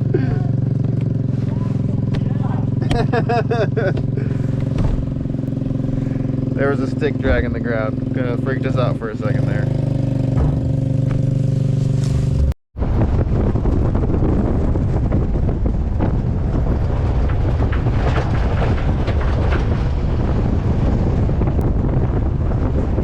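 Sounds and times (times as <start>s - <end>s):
engine hum: 0.0s - 23.0s
moving pickup truck rumble: 0.0s - 23.0s
wind buffeting microphone: 0.0s - 23.0s.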